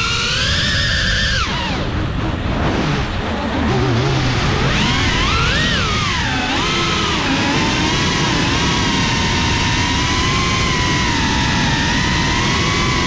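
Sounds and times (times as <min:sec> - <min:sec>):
drone motors whining: 0:00.0 - 0:13.0
low rushing noise: 0:00.0 - 0:13.0.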